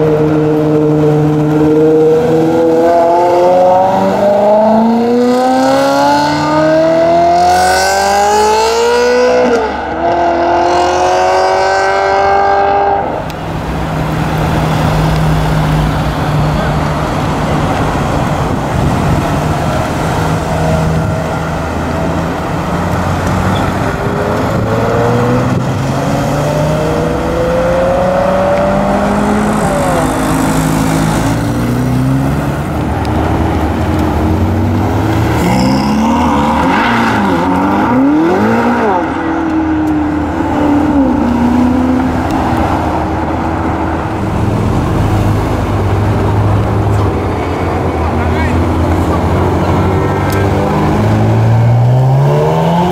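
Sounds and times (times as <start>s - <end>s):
supercar engines revving: 0.0s - 52.9s.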